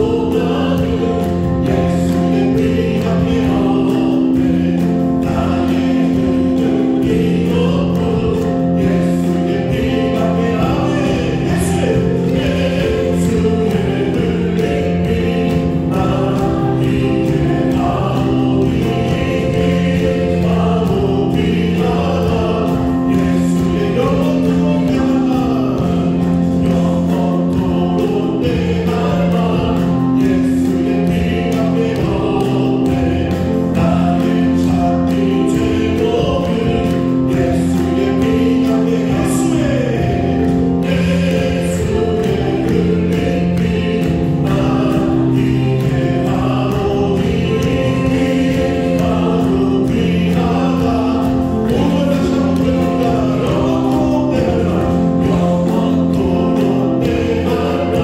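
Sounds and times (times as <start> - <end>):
drums keeping a steady beat: 0.0 - 58.0
group singing worship song: 0.0 - 58.0
keyboard: 0.0 - 58.0.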